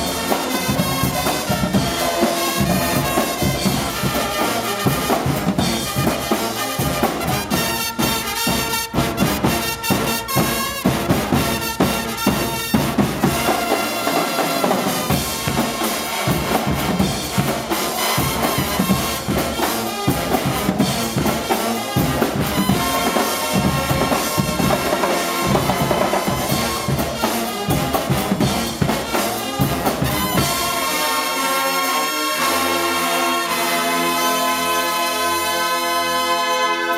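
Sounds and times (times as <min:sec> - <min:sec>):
trumpets and trombones: 0:00.0 - 0:36.9.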